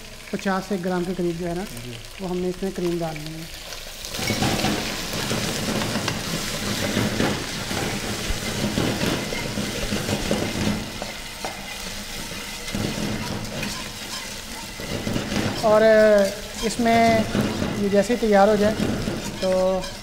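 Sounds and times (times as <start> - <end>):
chicken sizzling in oil: 0.0 - 20.0
utensils scraping metal pans: 4.0 - 20.0.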